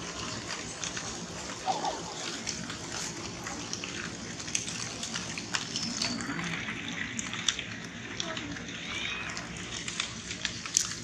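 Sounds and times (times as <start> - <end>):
crackles of dry leaves and stones: 0.0 - 11.0.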